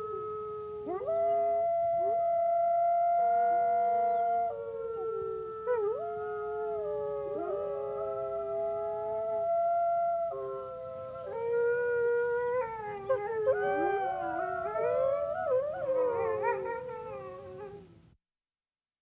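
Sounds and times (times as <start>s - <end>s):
wolves howling in chorus: 0.8s - 17.9s.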